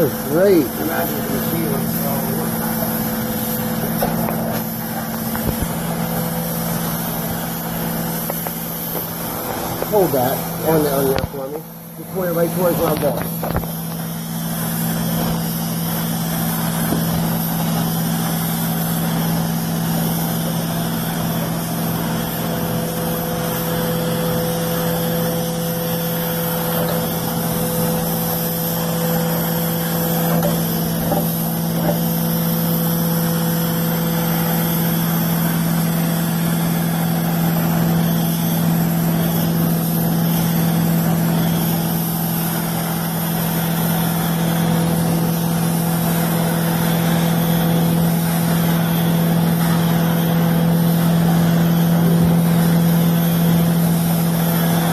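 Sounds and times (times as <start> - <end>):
carpet extraction unit humming: 0.0 - 54.9.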